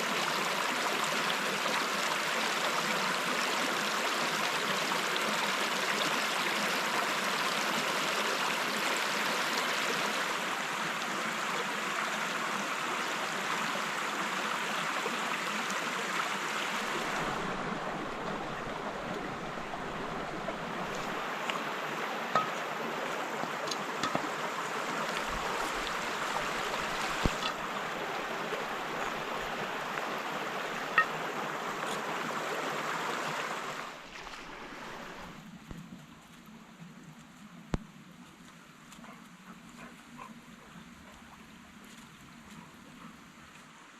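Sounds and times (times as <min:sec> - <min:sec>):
running water rushing: 0:00.0 - 0:43.9.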